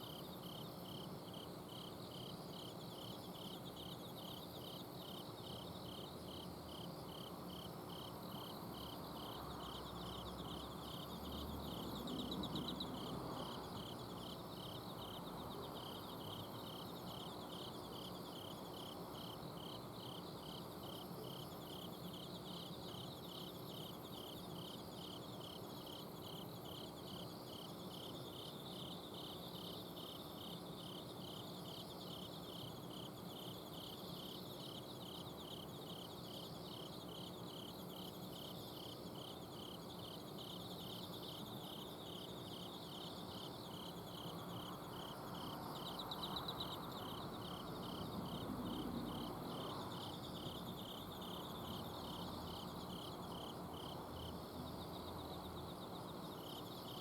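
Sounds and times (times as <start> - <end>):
cricket chirping: 0.0 - 57.0
insects trilling: 0.0 - 57.0.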